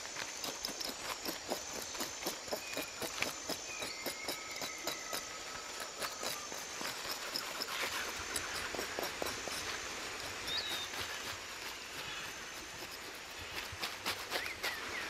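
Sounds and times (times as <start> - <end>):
high thin insect tones: 0.0 - 14.9.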